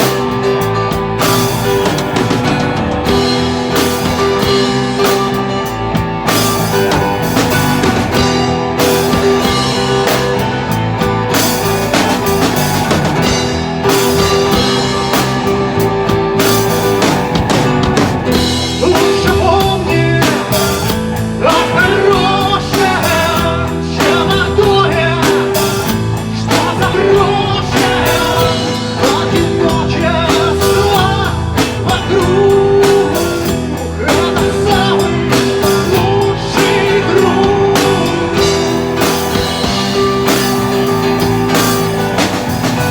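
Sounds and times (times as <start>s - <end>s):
instrumental rock music: 0.0s - 42.9s.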